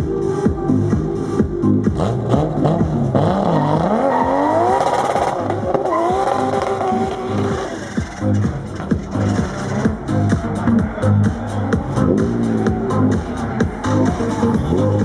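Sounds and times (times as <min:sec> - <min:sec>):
car engine revving: 0:01.2 - 0:15.0.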